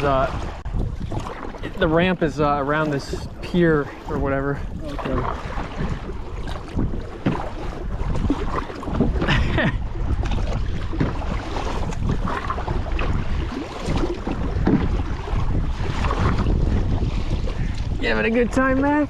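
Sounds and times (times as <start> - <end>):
kayak paddles splashing: 0.0 - 19.0
wind rumbling on microphone: 0.0 - 19.0.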